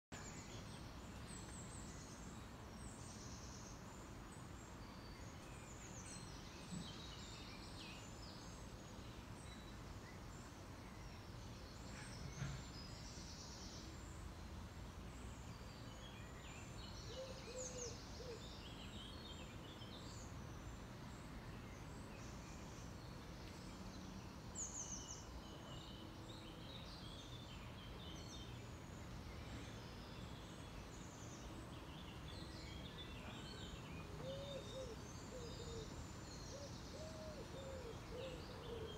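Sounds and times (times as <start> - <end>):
outdoor background noise: 0.1 - 38.9.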